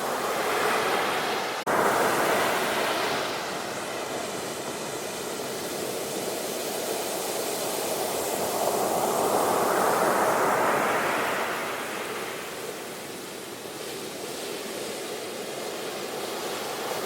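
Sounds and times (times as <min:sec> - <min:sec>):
sea waves washing ashore: 0:00.0 - 0:17.0.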